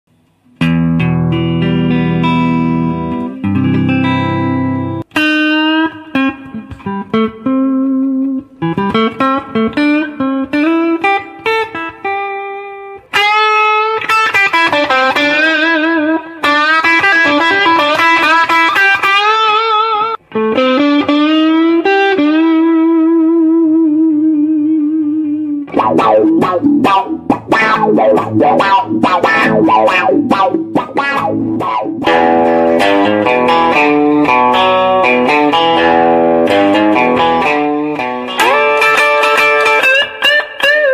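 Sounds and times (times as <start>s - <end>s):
electric guitar playing: 0.4s - 40.9s.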